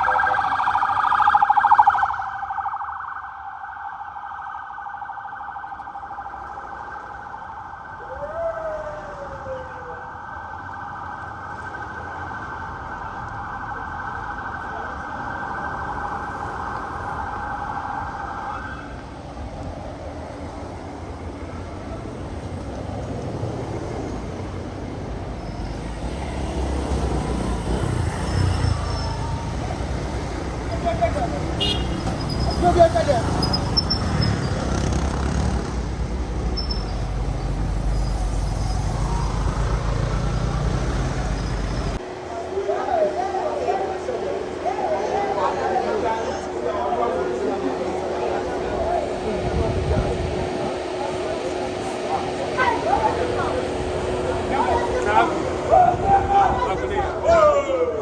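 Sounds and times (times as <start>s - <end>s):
emergency siren warbling: 0.0s - 58.0s
falling siren tone: 0.0s - 58.0s
traffic rumble: 0.0s - 58.0s.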